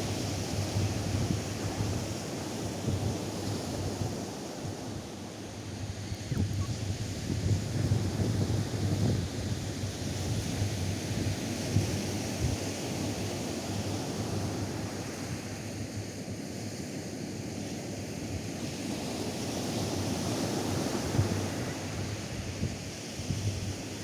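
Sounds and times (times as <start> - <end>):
wind gusting on microphone: 0.0 - 15.6, 19.8 - 24.0.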